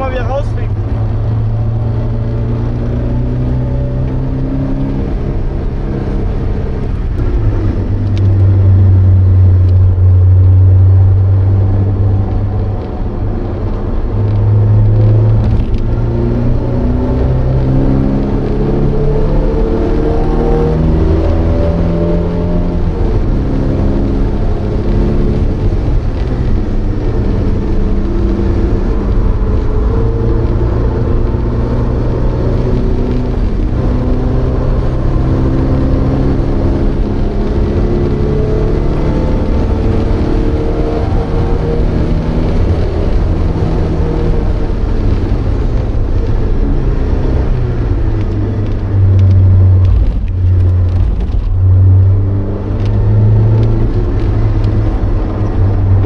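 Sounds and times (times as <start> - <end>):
car engine revving through gears: 0.0 - 56.0.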